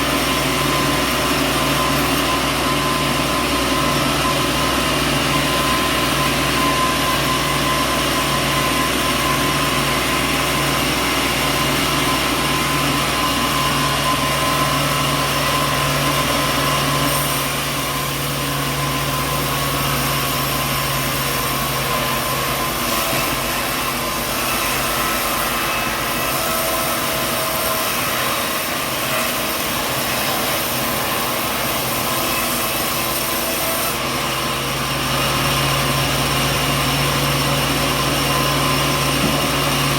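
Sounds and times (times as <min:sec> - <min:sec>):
sawmill machinery din: 0:00.0 - 0:39.9.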